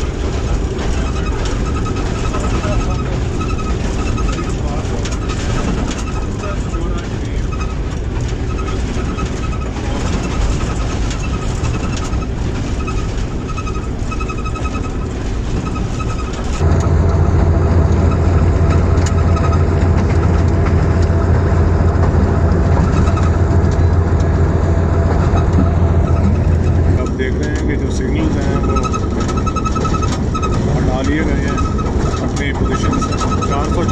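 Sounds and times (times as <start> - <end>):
low engine drone: 0.0 - 33.9
train wheels rumbling on rail: 0.0 - 33.9.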